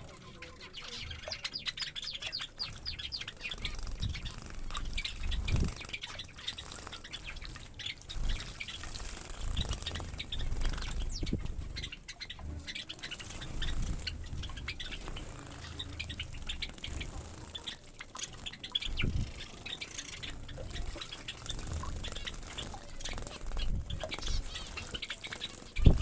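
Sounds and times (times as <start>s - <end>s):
finches chirping: 0.0s - 26.0s
wing flutters: 0.0s - 26.0s.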